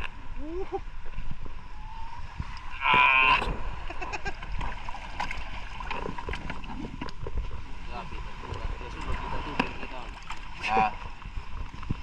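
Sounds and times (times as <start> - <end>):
water splashes: 0.0 - 12.0.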